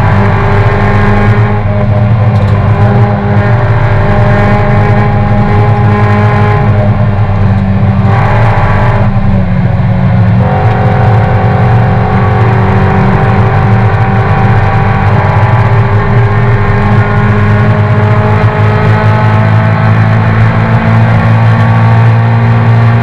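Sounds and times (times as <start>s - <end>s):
race car engine running hard: 0.0s - 23.0s.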